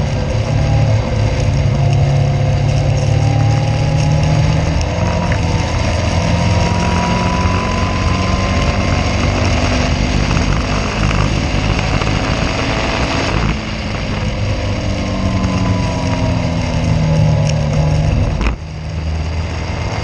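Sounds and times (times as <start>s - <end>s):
race car engine running hard: 0.0s - 20.0s
wind and road noise: 0.0s - 20.0s.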